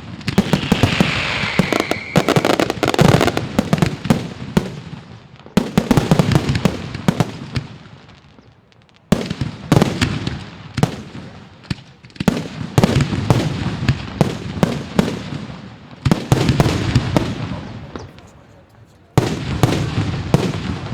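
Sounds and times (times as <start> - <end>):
fireworks bangs and cracks: 0.0 - 20.9.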